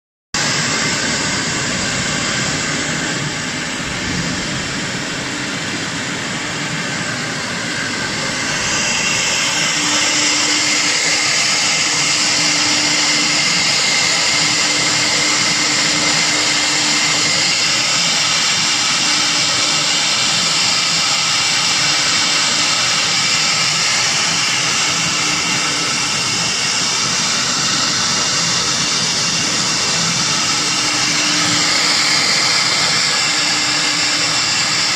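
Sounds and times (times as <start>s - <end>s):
hiss of bit cutting board: 0.4s - 34.9s
router spindle high whine: 0.4s - 34.9s.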